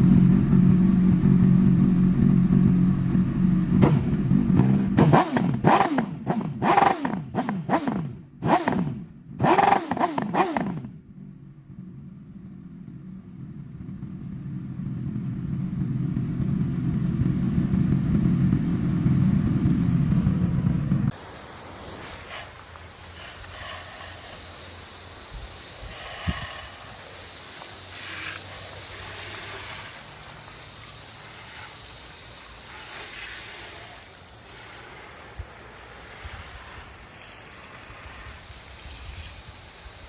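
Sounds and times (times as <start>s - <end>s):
motorcycle engine revving: 0.0s - 39.4s.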